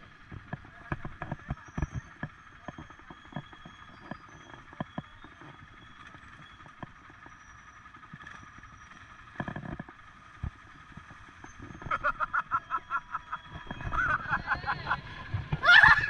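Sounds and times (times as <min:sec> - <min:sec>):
atv engine running slowly: 0:00.0 - 0:16.0.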